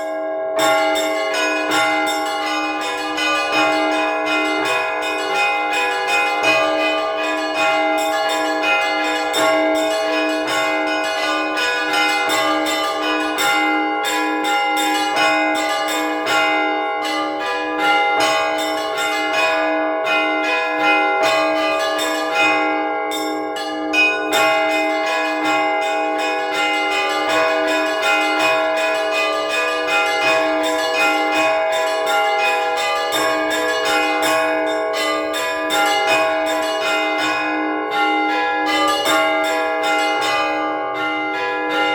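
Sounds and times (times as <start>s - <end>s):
low bell ringing steadily: 0.0s - 41.9s
small church bells struck rapidly: 0.0s - 41.9s.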